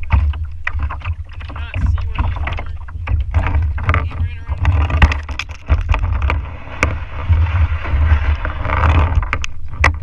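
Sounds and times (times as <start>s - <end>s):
water splashing against kayak hull: 0.0s - 10.0s
wind rumbling on microphone: 0.0s - 10.0s.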